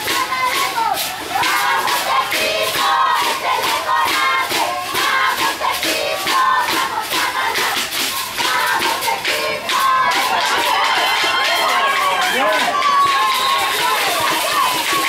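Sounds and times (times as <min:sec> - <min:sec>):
group chanting and shouting: 0:00.0 - 0:15.0.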